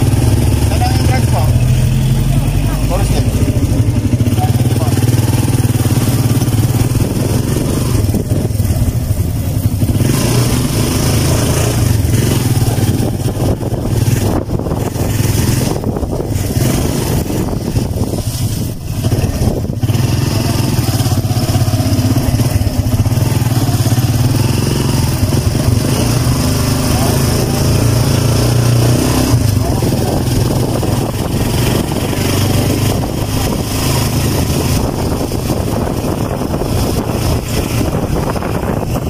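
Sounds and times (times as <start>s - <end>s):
motorcycle engine running: 0.0s - 39.0s
road and wind noise: 0.0s - 39.0s.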